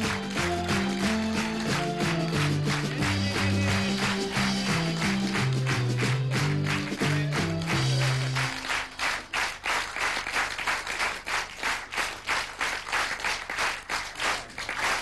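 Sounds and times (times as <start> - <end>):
audience clapping in time: 0.0 - 15.0.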